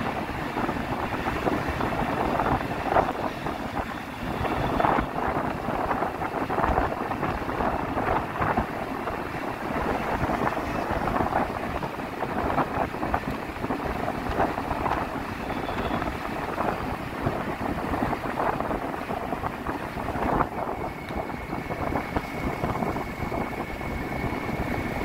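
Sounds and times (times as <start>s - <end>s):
vehicle road rush: 0.0s - 25.0s
wind buffeting microphone: 0.0s - 25.0s.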